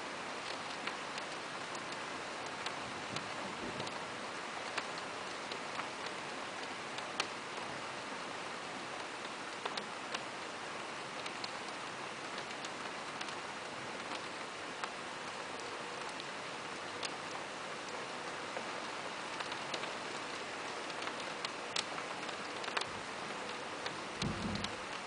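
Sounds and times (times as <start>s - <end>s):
steady rain hiss: 0.0s - 25.0s
raindrop ticks: 0.3s - 7.7s, 8.8s - 25.0s.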